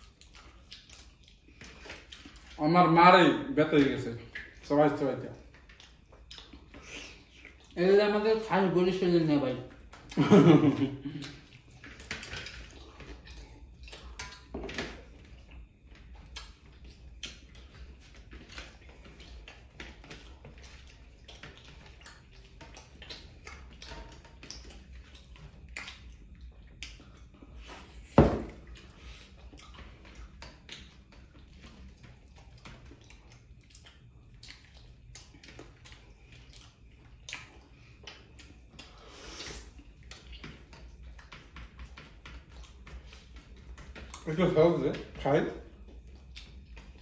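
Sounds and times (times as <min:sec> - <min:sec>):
chewing smacks and clicks: 0:00.0 - 0:02.6, 0:03.8 - 0:07.8, 0:09.6 - 0:10.2, 0:10.9 - 0:47.0.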